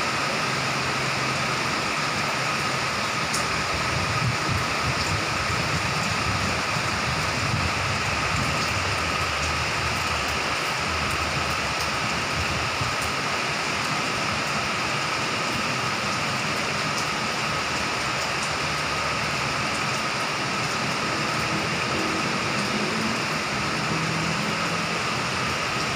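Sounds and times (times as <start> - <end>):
heavy rain falling: 0.0 - 25.9.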